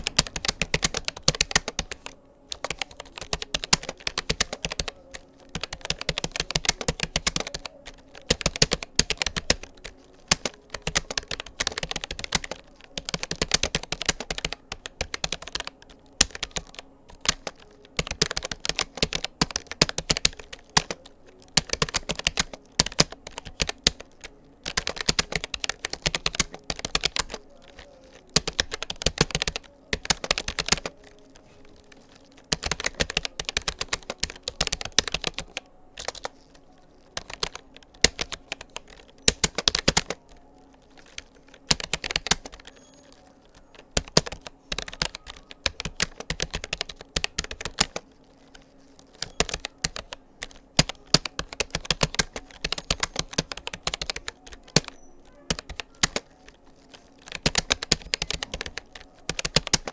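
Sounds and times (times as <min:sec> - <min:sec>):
keyboard typing clicks: 0:00.0 - 0:59.9.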